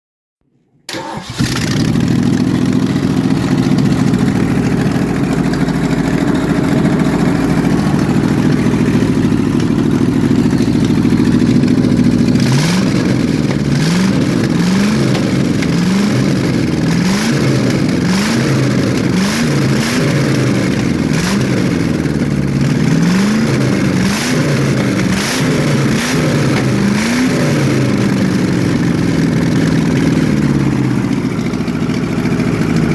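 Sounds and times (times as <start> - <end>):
car engine idling and revving: 0.9 - 32.9.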